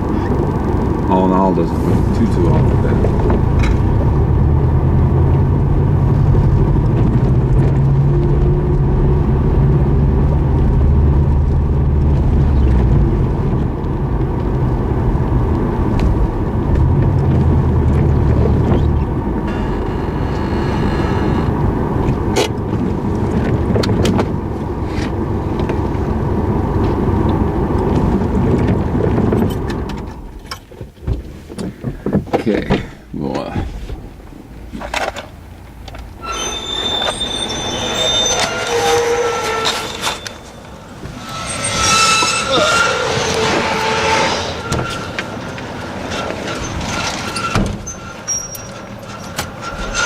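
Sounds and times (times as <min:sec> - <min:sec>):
car engine hum: 0:00.0 - 0:36.4, 0:37.0 - 0:50.0
road noise: 0:00.0 - 0:50.0.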